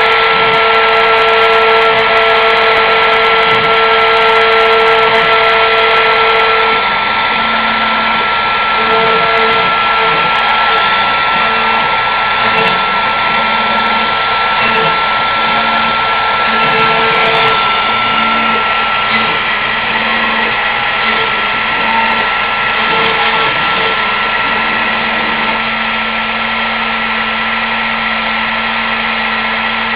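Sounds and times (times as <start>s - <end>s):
end mill cutting wood: 0.0s - 29.9s
router spindle whine: 0.0s - 29.9s.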